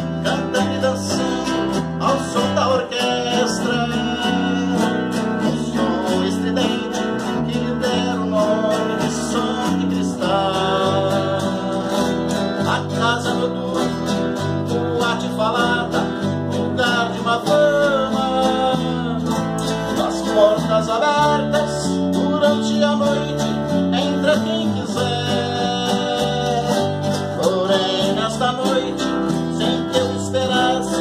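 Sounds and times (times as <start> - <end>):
classical guitars playing: 0.0 - 31.0.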